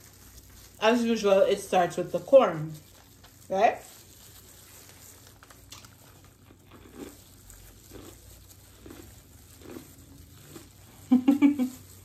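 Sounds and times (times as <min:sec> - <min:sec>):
chewing corn on the cob: 0:00.0 - 0:12.0.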